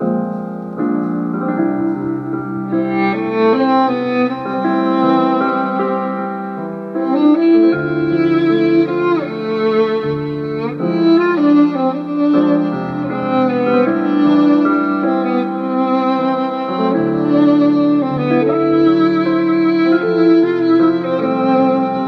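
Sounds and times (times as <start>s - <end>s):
violin melody: 0.0s - 22.0s.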